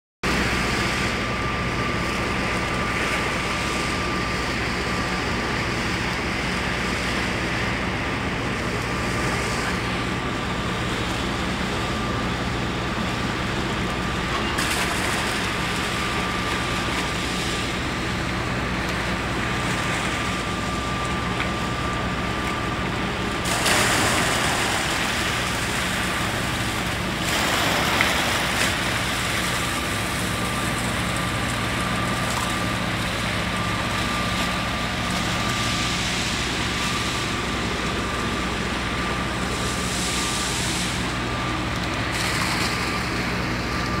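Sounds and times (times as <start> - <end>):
heavy machinery droning: 0.2 - 44.0.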